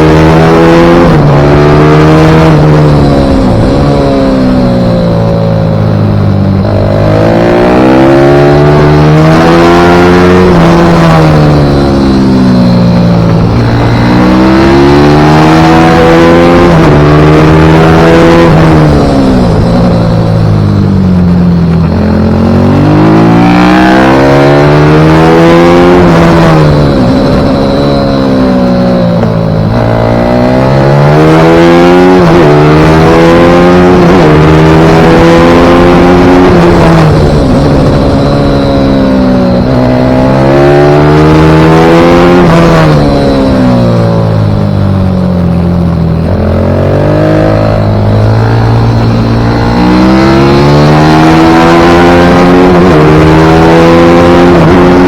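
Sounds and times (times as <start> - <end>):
pit bike engine revving: 0.0 - 44.6, 45.4 - 55.0.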